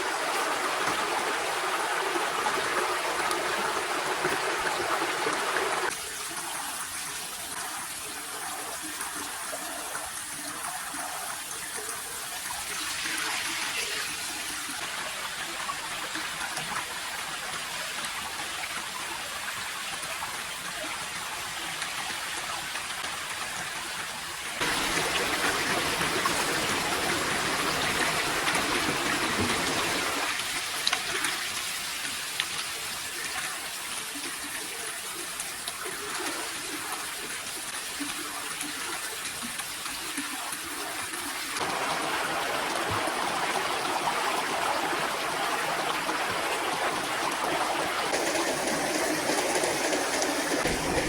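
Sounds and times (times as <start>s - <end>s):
stream trickling and splashing: 0.0s - 51.0s.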